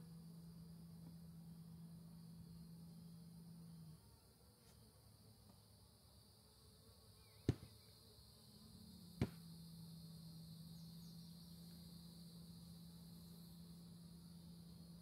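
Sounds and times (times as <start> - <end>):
high insect whine: 0.0 - 15.0.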